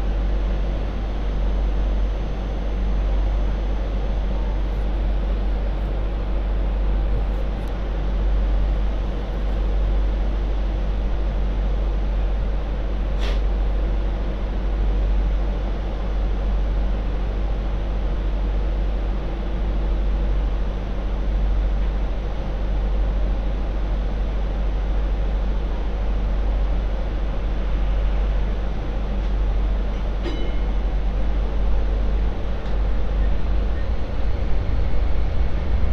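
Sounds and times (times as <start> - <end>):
train rumble with motor hum: 0.0 - 35.9.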